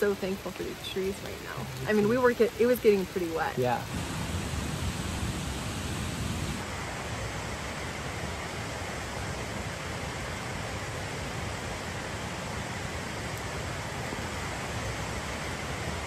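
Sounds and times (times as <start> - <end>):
hard rain falling: 0.0 - 16.0.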